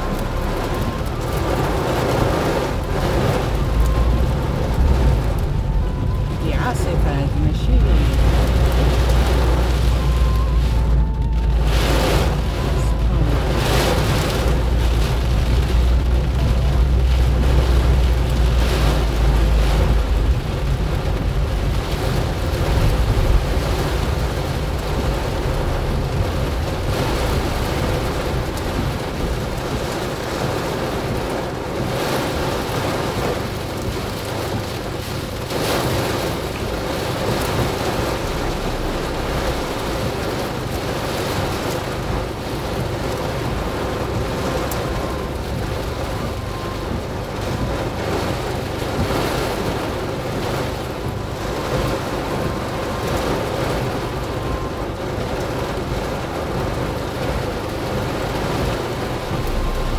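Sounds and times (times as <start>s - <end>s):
deep rumble: 0.0s - 59.9s
heavy rain drumming on a car: 0.0s - 59.9s.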